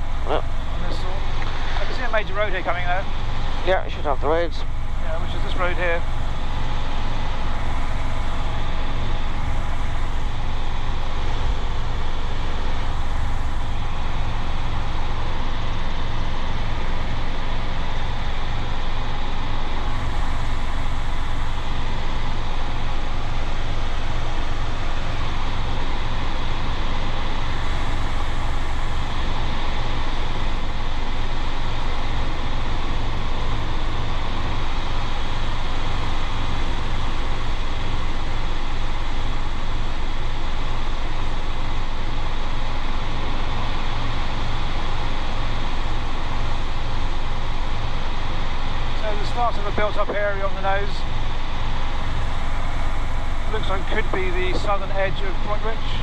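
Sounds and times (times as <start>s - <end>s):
helicopter cabin drone: 0.0s - 56.0s.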